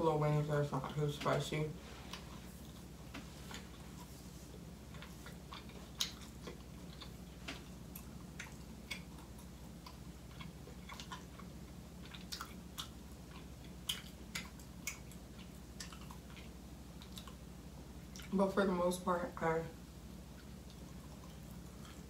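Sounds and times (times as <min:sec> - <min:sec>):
steady low hum: 0:00.0 - 0:22.0
mouth chewing food: 0:02.0 - 0:18.4, 0:20.2 - 0:22.0.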